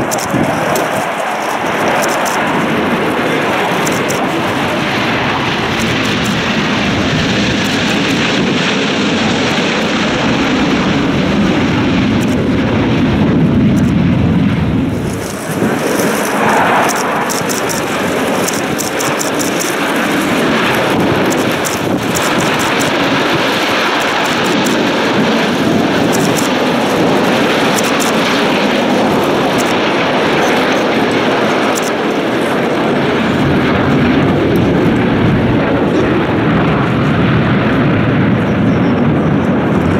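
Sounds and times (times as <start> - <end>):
fighter jets flying past: 0.0 - 39.9.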